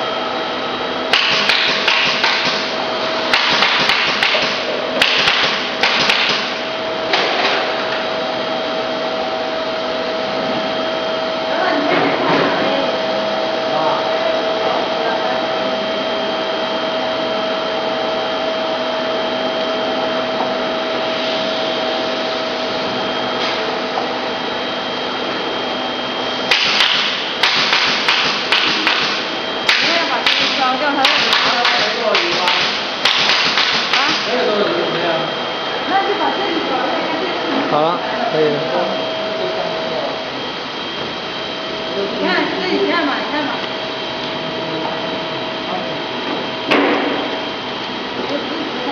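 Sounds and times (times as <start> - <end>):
machine hum with high whine: 0.0 - 48.9.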